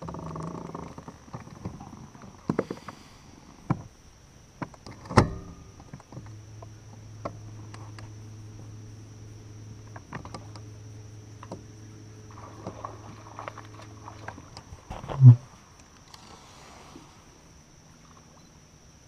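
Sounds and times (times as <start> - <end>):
high insect drone: 0.0 - 19.0
low motor hum: 0.0 - 19.0.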